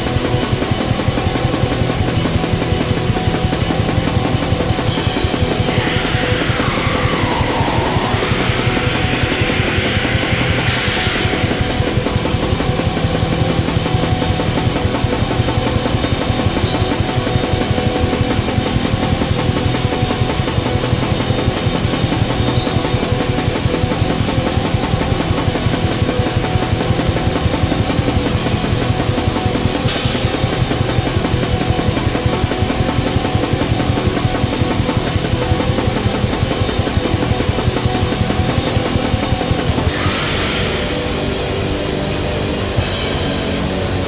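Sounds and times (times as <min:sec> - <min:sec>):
distorted metal guitar: 0:00.0 - 0:44.0.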